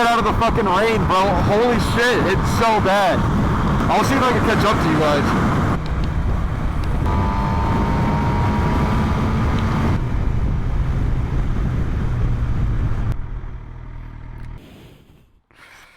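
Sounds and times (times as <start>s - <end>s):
motorcycle engine drone: 0.0s - 14.6s.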